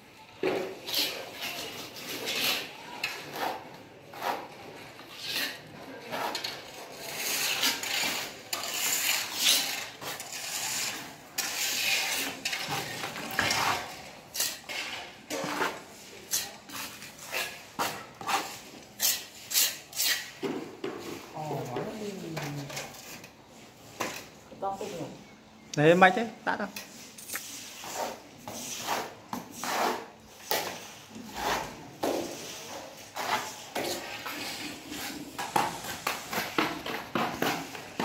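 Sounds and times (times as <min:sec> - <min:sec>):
trowel scraping wet mortar: 0:00.7 - 0:21.3, 0:27.2 - 0:38.0.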